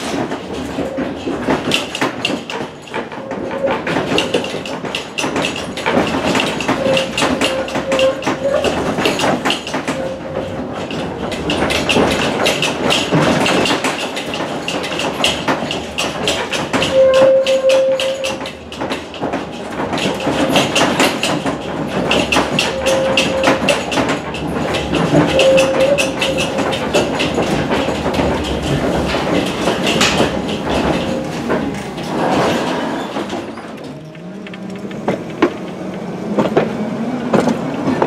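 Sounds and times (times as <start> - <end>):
tram clattering and rattling: 0.0 - 38.0
tram wheels squealing: 0.0 - 38.0.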